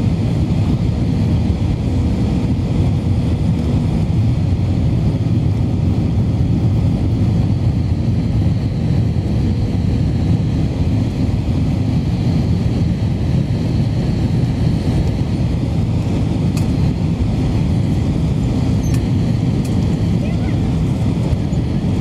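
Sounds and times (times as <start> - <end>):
aircraft cabin engine roar: 0.0 - 22.0.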